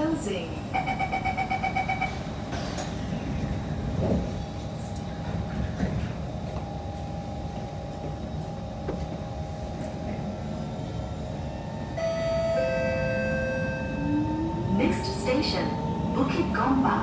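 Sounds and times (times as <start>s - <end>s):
train running gear rumble: 0.0s - 17.0s.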